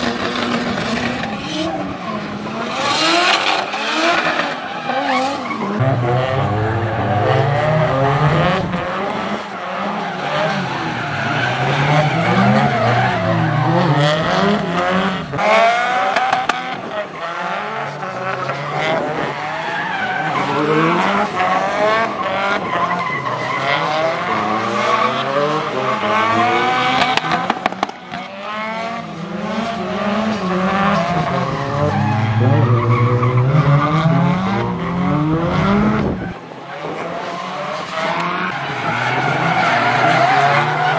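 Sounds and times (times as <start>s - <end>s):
car engines revving: 0.0s - 40.9s
tyres skidding: 0.0s - 40.9s.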